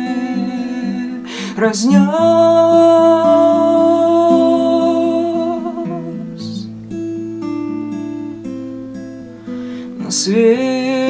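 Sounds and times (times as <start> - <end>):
guitar picked arpeggio: 0.0 - 11.0.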